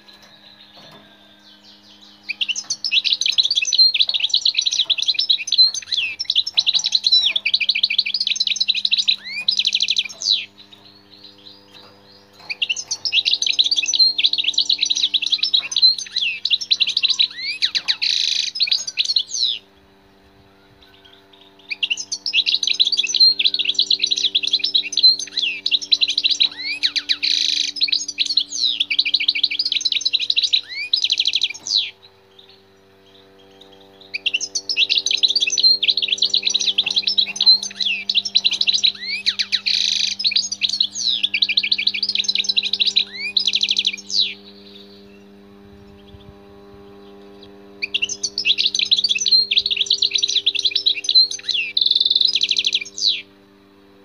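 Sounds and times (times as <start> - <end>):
bird twittering song: 0.0 - 54.0.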